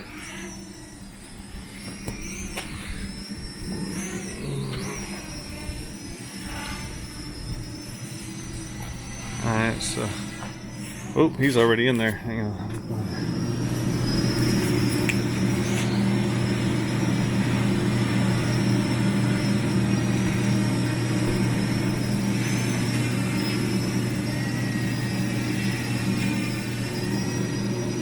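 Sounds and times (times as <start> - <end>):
drone propeller hum: 0.0 - 28.0.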